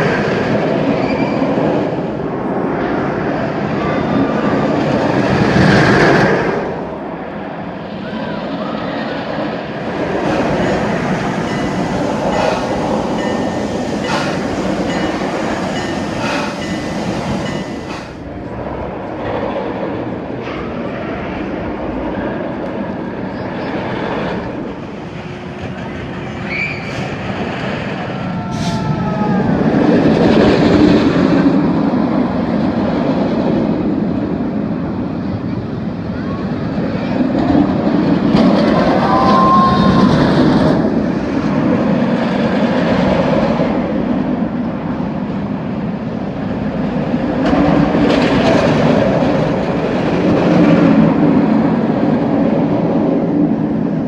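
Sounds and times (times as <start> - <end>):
roller coaster train rumbling: 0.0 - 54.0
roller coaster clicks: 9.1 - 54.0.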